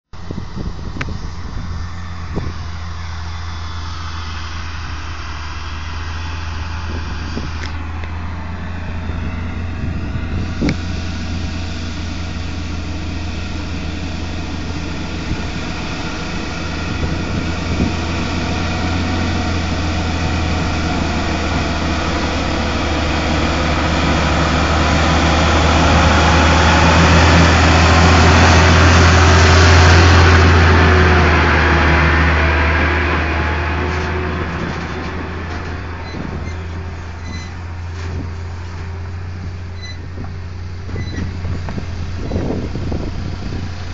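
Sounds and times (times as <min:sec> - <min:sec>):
truck diesel engine under load: 0:00.0 - 0:43.9.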